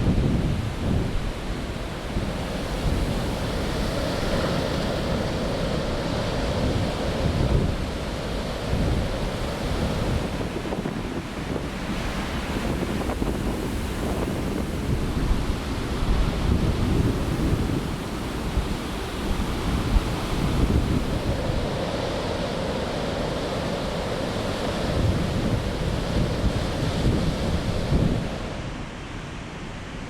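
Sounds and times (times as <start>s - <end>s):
wind buffeting microphone: 0.0s - 28.9s
storm surf breaking: 0.0s - 30.0s.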